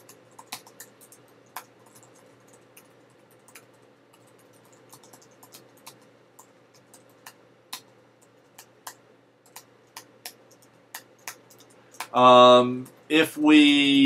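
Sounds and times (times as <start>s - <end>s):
computer keyboard typing: 0.0s - 13.0s.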